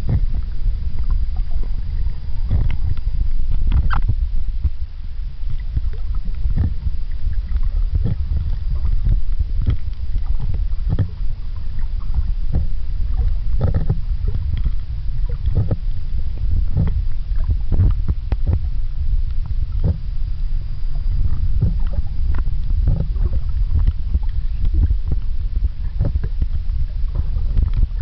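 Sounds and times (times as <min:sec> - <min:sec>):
small underwater clicks and crackles: 0:00.0 - 0:28.0
underwater rumble of water: 0:00.0 - 0:28.0.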